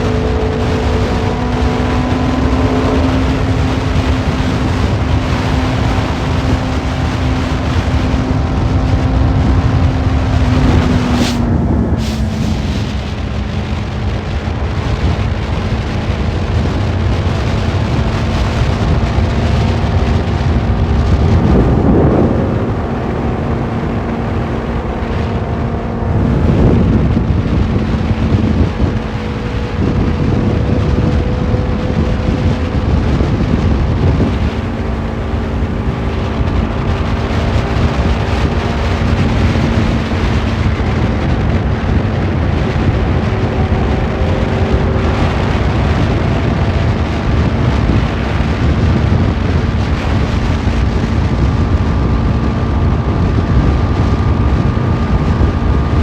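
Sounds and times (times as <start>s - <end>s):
motorcycle engine revving: 0.0s - 56.0s
wind buffeting on microphone: 0.0s - 56.0s.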